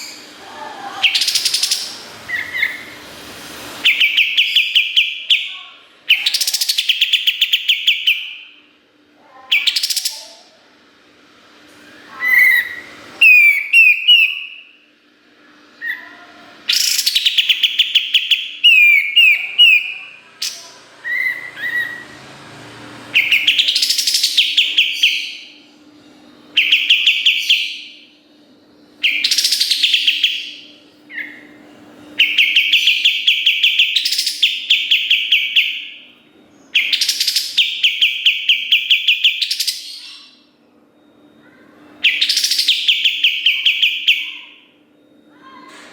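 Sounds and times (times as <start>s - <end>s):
faint steady hum: 0.0s - 45.9s
bird singing trills: 0.9s - 3.0s, 3.8s - 8.6s, 9.4s - 10.5s, 12.1s - 14.8s, 15.8s - 22.3s, 23.1s - 25.7s, 26.5s - 28.2s, 28.9s - 40.6s, 41.2s - 45.6s.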